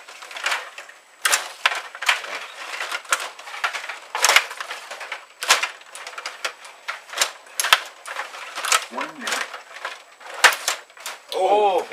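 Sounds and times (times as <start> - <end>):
table hockey plastic clacking: 0.0 - 11.5.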